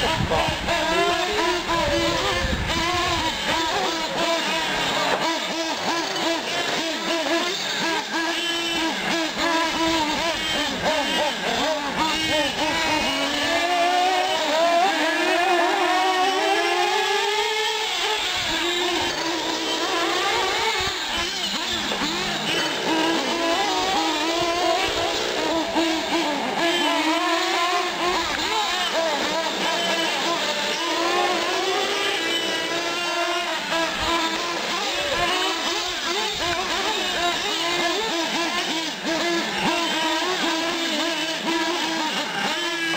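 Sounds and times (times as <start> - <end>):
engine full throttle whine: 0.0 - 42.9
rc car engines buzzing and revving: 0.0 - 42.9.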